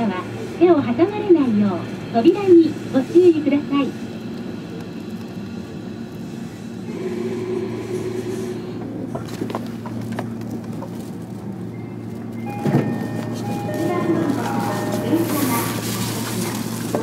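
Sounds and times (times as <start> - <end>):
train car hum and rumble: 0.0 - 17.0.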